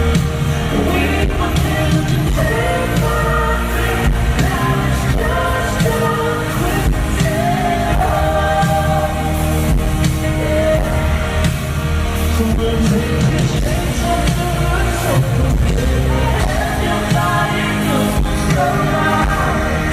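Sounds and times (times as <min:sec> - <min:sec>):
live pop-rock band: 0:00.0 - 0:19.9.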